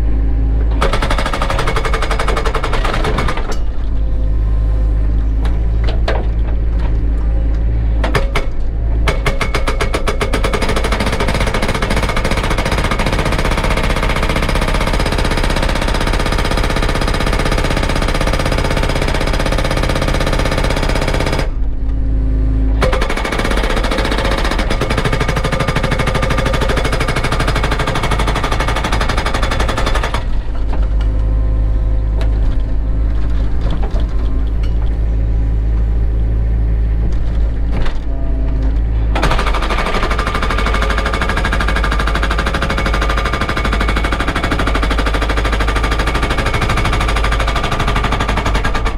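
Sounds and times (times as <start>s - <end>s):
excavator diesel engine chugging: 0.0s - 48.9s.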